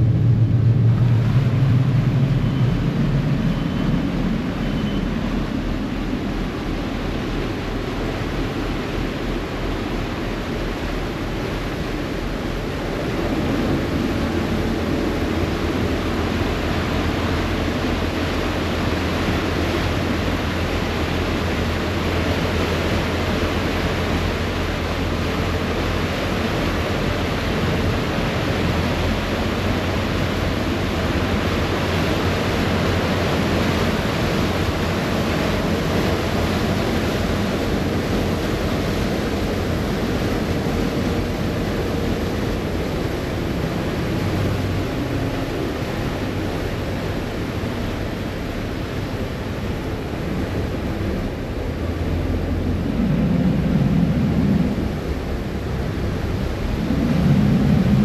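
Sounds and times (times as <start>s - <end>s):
churning propeller wake water: 0.0s - 58.0s
low engine hum: 0.0s - 58.0s.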